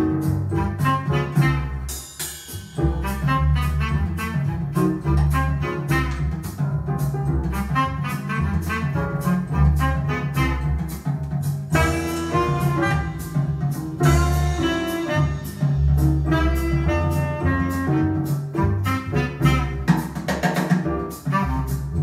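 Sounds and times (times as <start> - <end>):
horn lines: 0.0 - 22.0
jazz over loudspeakers: 0.0 - 22.0
steady drums: 0.0 - 22.0
walking bass: 0.0 - 22.0.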